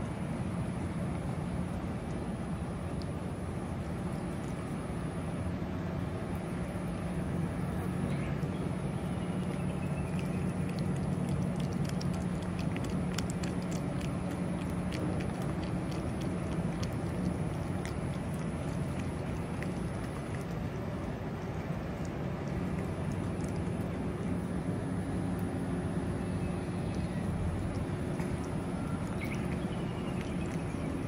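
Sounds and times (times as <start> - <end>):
cat chewing and lapping food: 0.0 - 31.0
low hum: 0.0 - 31.0.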